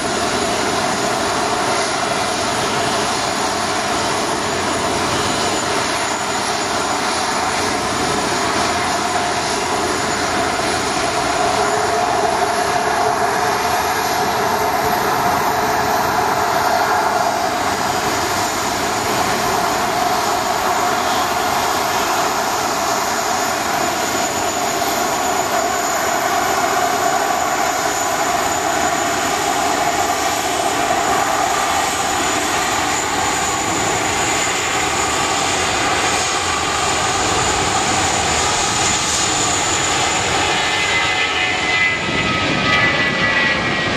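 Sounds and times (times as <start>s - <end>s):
jet engines with fan whine: 0.0s - 43.9s.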